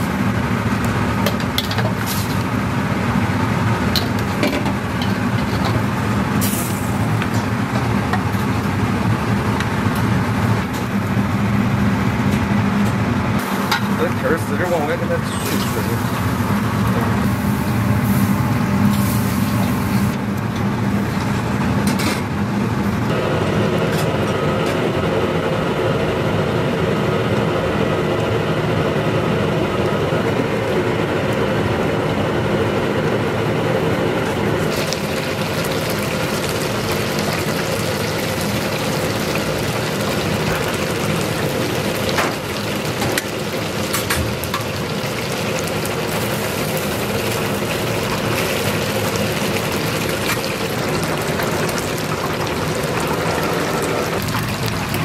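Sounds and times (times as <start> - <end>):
deep fryer oil sizzling: 0.0 - 25.3, 33.6 - 55.0.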